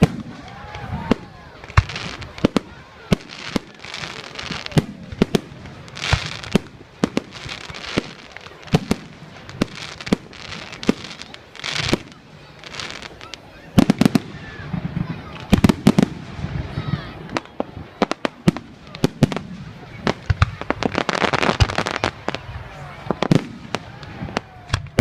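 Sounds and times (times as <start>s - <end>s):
fireworks bangs: 0.0s - 25.0s
fireworks hissing and crackling: 0.0s - 25.0s.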